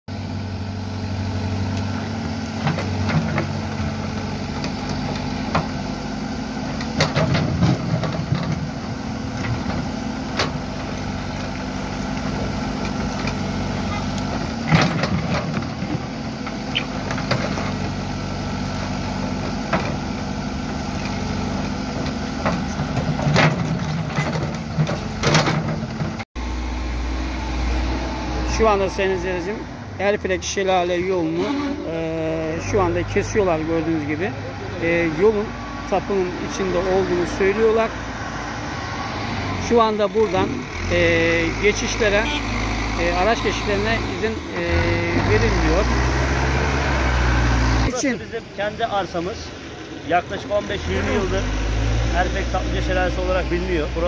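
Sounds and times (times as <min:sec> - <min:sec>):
diesel engine running under load: 0:00.1 - 0:54.0.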